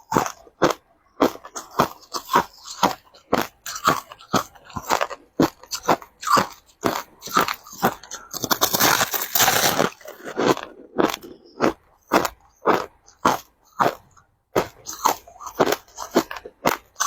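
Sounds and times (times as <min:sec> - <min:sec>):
crushed ice being chewed: 0:00.0 - 0:17.0.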